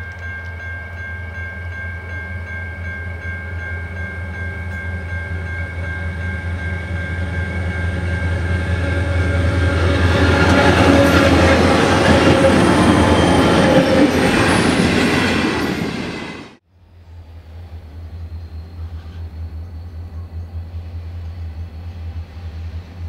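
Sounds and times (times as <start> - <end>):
diesel locomotives passing: 0.1 - 23.0
wheels rumbling on rails: 0.1 - 23.0.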